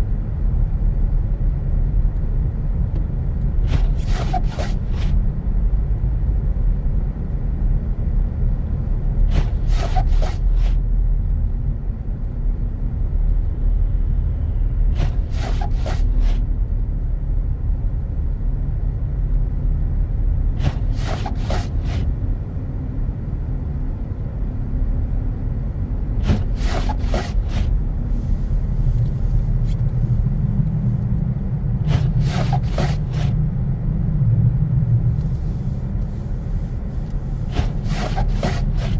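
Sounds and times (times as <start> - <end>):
car driving rumble from inside: 0.0 - 38.9.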